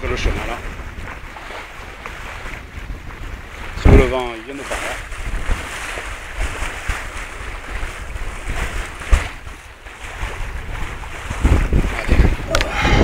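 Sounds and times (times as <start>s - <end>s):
small waves washing: 0.0s - 13.0s
wind buffeting microphone: 0.0s - 13.0s.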